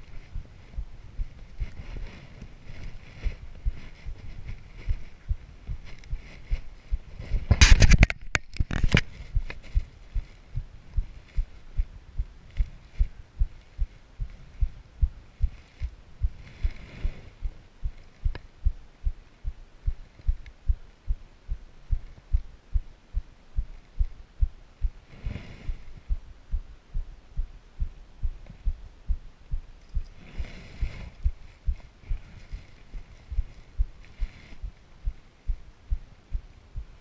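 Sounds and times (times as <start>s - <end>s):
low thumping: 0.0s - 7.6s, 9.2s - 25.1s, 25.7s - 30.2s, 30.8s - 37.0s.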